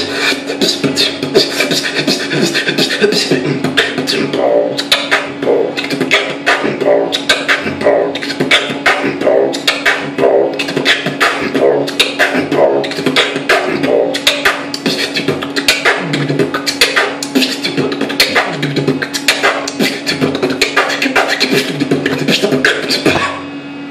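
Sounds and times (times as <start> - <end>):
beatboxing: 0.0 - 23.5
steady hum: 0.0 - 23.9.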